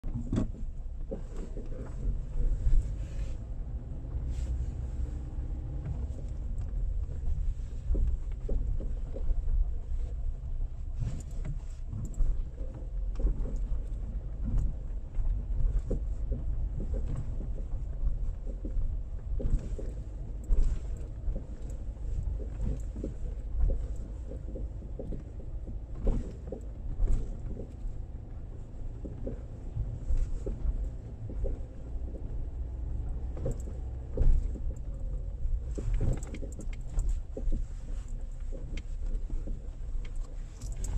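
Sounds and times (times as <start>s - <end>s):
road noise rumble: 0.0s - 40.9s.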